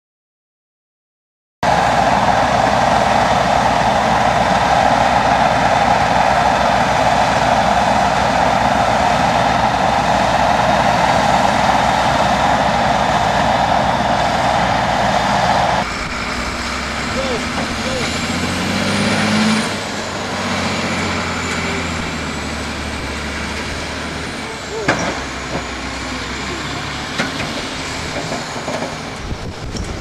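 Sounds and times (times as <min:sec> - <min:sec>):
heavy diesel engine drone: 0:01.6 - 0:30.0.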